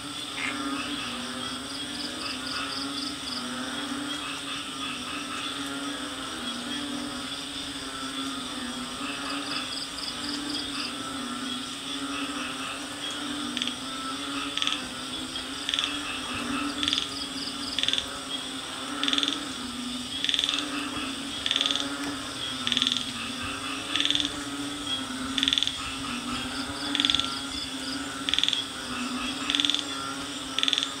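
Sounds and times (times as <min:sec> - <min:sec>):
faint insect-like trills: 0:00.0 - 0:31.0
frogs croaking: 0:00.0 - 0:31.0.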